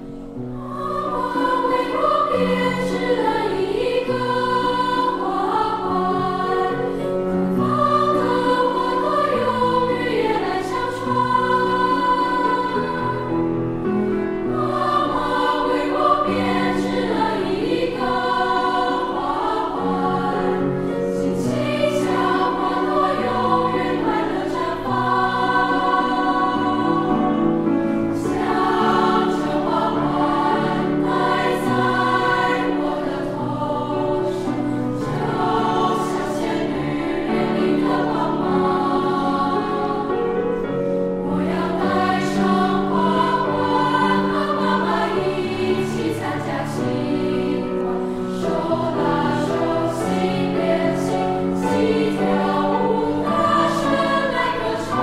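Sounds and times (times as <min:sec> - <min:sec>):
youth choir singing: 0:00.0 - 0:55.0.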